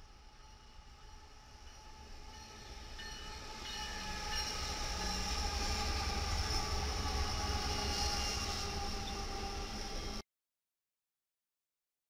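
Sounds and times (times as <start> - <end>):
diesel locomotives rumbling: 0.1 - 10.2.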